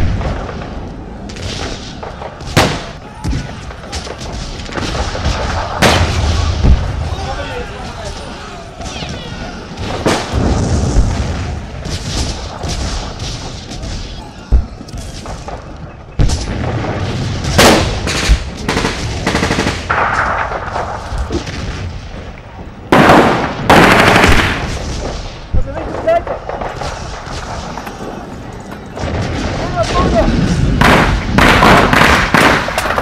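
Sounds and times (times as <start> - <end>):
blank gunfire shots and bursts: 0.0 - 33.0.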